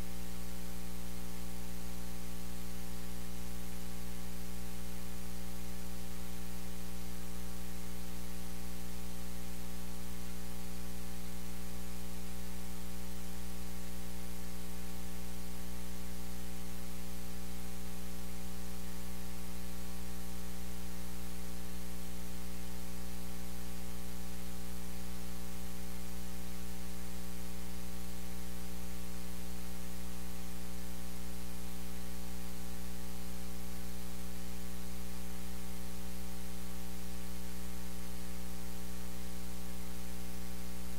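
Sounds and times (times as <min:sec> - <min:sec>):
constant hiss: 0:00.0 - 0:40.9
electrical mains hum: 0:00.0 - 0:40.9.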